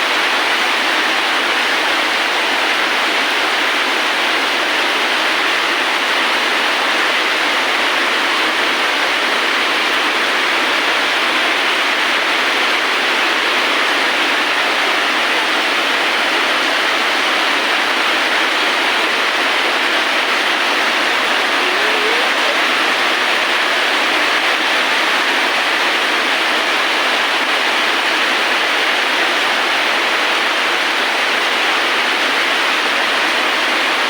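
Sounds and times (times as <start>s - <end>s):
rain falling steadily: 0.0s - 34.0s.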